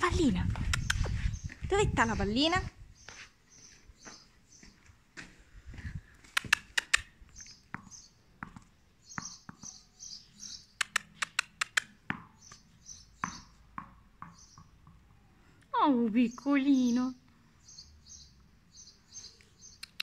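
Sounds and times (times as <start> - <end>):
small birds chirping: 0.0 - 5.0, 5.7 - 20.0.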